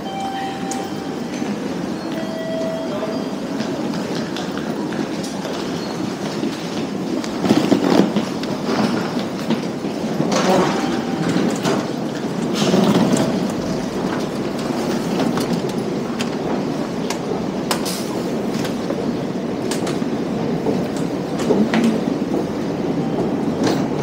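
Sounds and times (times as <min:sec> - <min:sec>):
rumble of station noise: 0:00.0 - 0:24.0.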